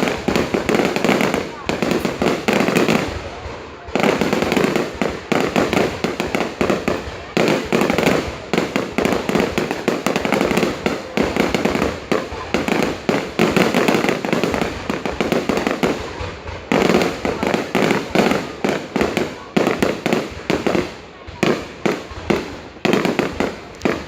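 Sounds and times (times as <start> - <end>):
fireworks popping and crackling: 0.0 - 24.0.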